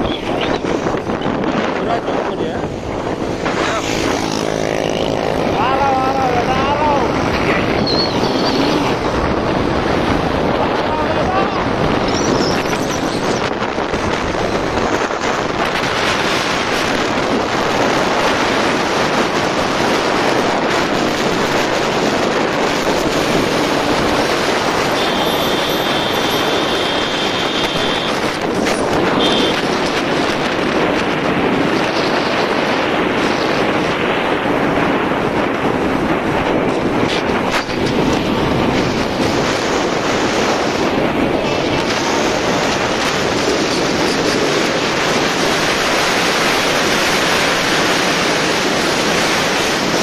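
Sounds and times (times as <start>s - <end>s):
motorcycle accelerating: 0.0s - 50.0s
wind noise on microphone: 0.0s - 50.0s.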